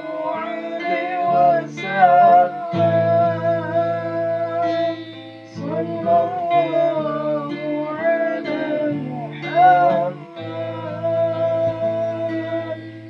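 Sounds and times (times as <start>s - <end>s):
instrumental accompaniment: 0.0s - 13.0s
person singing devotional song: 0.0s - 13.0s.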